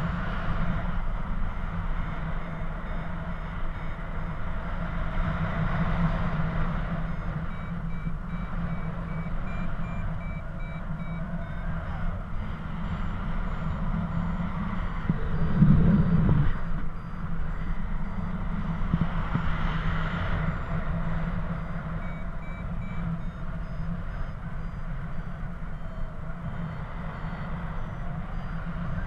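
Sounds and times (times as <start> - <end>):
wind rushing on microphone: 0.0 - 29.0
variometer beeping: 0.6 - 29.0.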